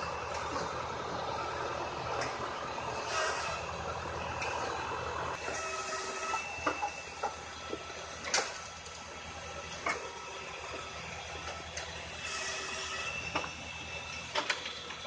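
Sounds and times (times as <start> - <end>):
firewood processor running: 0.0 - 15.0
tractor engine humming: 0.0 - 15.0.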